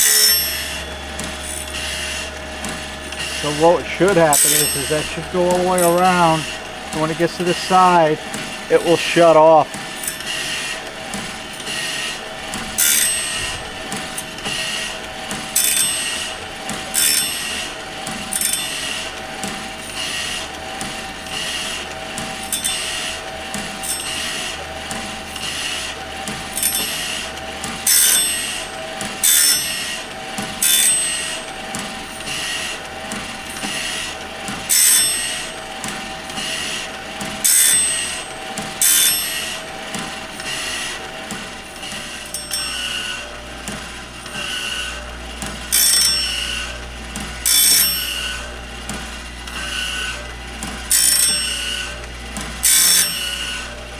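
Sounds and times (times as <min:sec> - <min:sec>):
grinding wheel motor humming: 0:00.0 - 0:53.9
grinding wheel scraping saw tooth: 0:00.0 - 0:53.9.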